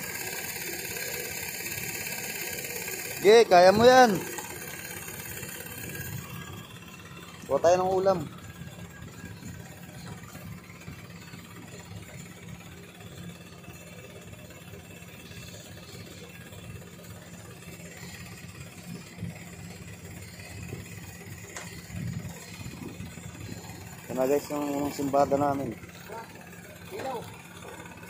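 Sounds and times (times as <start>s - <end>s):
small engine idling: 0.0s - 28.0s.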